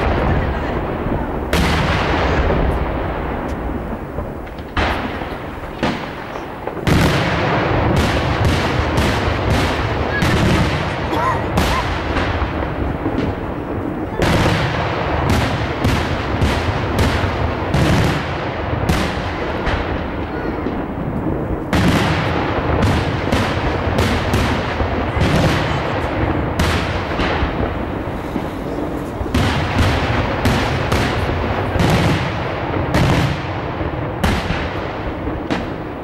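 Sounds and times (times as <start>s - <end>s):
continuous rumble: 0.0s - 36.0s
fireworks bursting: 0.0s - 36.0s.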